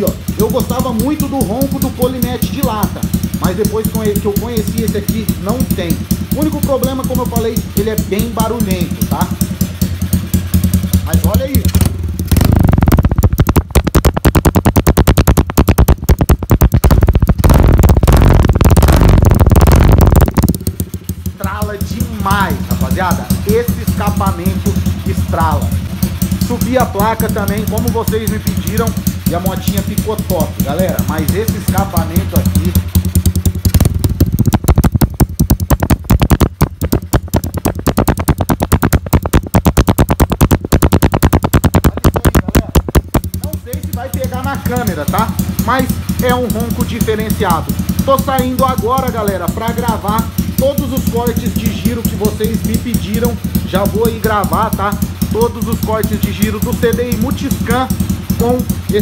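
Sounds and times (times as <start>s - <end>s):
exhaust popping and crackling: 0.0s - 59.0s
motorcycle engine revving: 0.0s - 59.0s.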